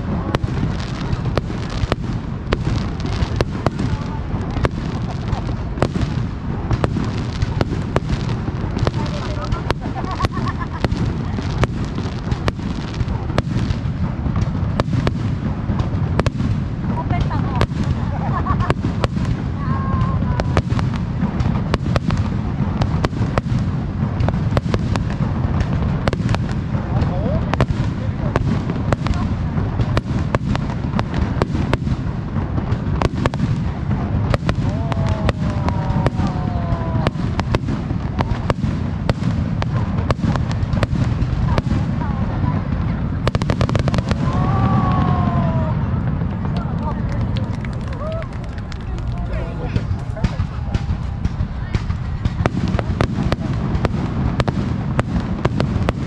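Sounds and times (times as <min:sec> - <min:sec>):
fireworks sharp cracks: 0:00.0 - 0:56.0
low rumble of booms: 0:00.0 - 0:56.0.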